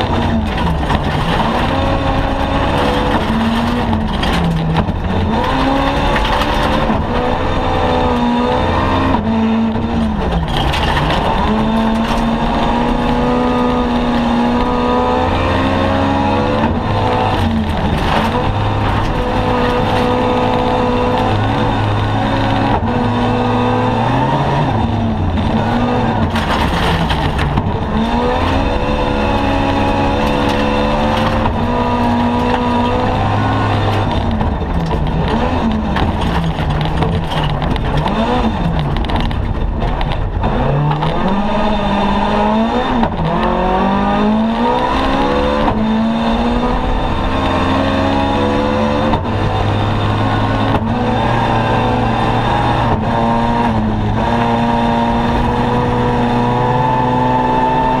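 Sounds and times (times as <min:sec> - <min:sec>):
car engine revving hard: 0:00.0 - 0:58.0
gravel and road noise rumble: 0:00.0 - 0:58.0.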